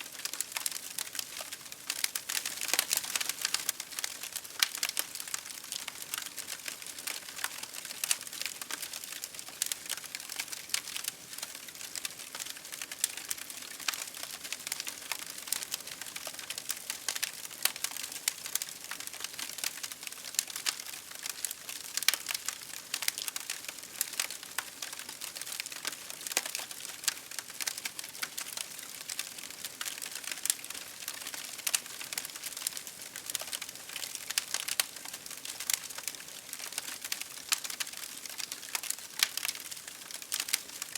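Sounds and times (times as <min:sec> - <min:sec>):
campfire crackling: 0:00.1 - 0:40.9.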